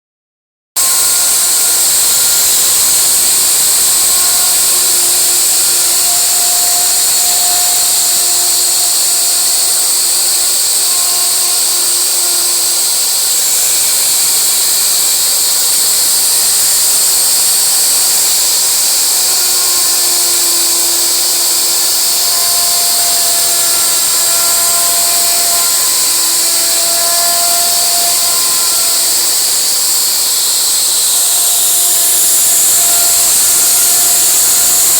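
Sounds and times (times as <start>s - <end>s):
faint lower tones: 0.8s - 31.3s
wood router hissing: 0.8s - 34.9s.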